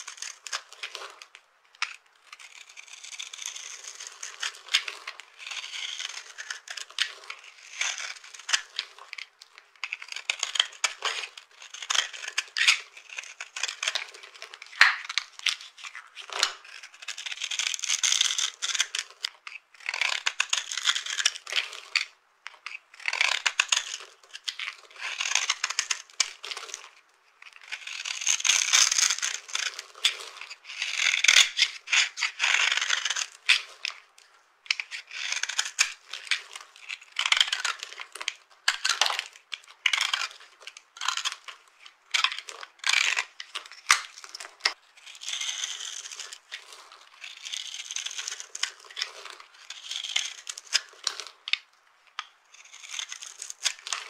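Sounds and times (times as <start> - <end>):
knife cutting dry soap: 0.0 - 34.0, 34.7 - 51.3, 52.2 - 54.0.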